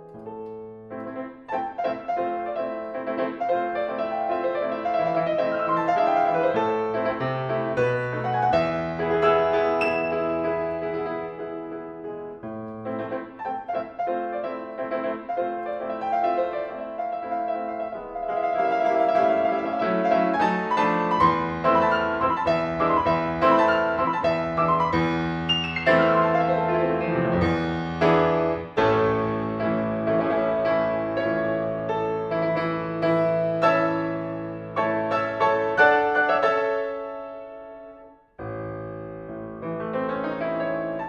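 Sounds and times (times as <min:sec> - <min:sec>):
solo classical piano: 0:00.0 - 0:41.0.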